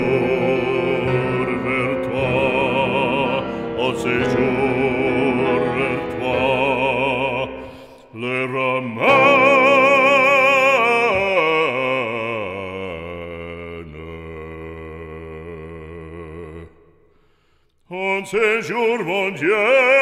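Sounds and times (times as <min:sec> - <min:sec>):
operatic singing with vibrato: 0:00.0 - 0:17.0, 0:17.9 - 0:20.0.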